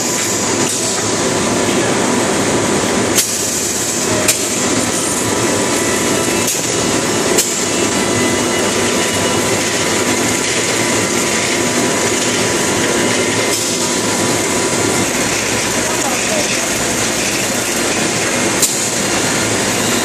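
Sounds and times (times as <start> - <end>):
machinery clatter and hum: 0.0 - 20.0.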